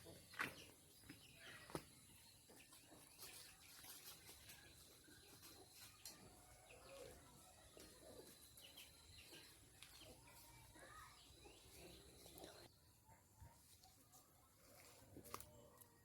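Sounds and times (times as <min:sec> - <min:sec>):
chickens calling softly: 0:00.0 - 0:16.0.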